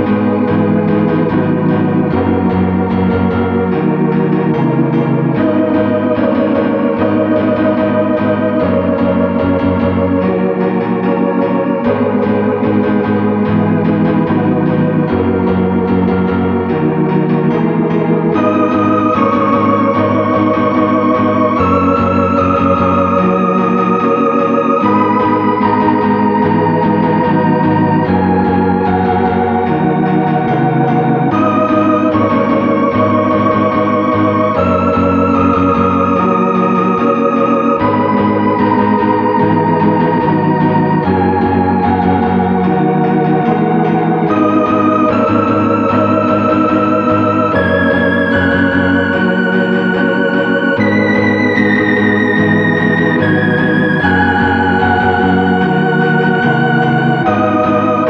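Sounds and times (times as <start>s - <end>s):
organ-like synthesizer chords: 0.0s - 58.0s.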